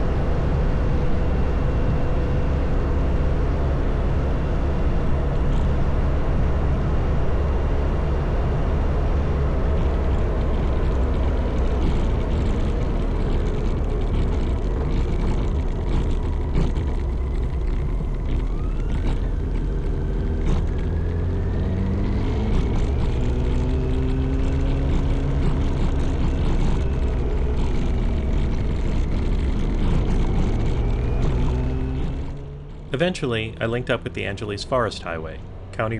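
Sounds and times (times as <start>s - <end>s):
motorcycle engine rumbling: 0.0s - 35.9s.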